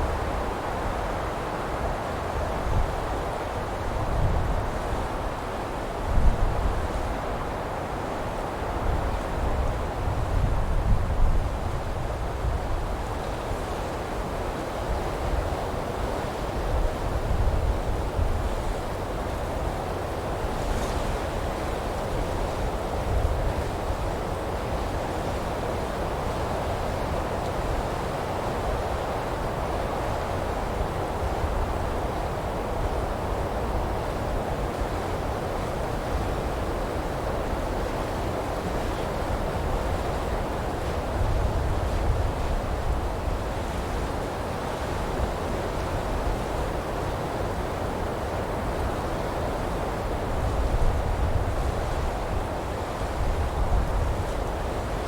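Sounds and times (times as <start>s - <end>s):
wind rushing through pine trees: 0.0s - 55.0s.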